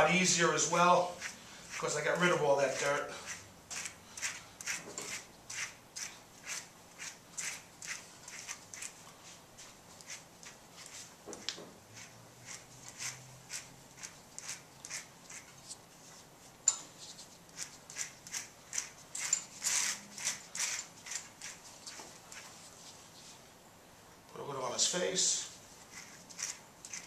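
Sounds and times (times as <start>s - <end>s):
brush raking through dog fur: 0.0s - 16.3s, 17.0s - 23.4s, 25.6s - 27.0s.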